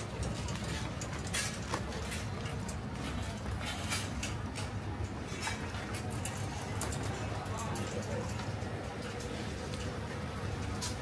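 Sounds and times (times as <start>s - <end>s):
low rumble of market: 0.0s - 11.0s
scattered clicks and knocks: 0.0s - 11.0s.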